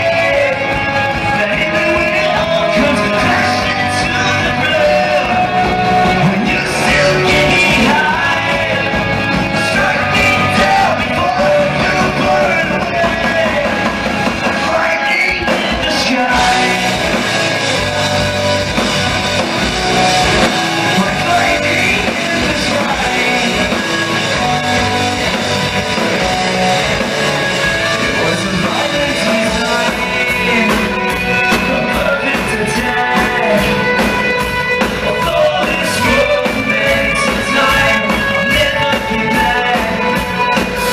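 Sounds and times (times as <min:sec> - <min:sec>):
hard rock band playing: 0:00.0 - 0:40.9
person singing: 0:00.0 - 0:40.9.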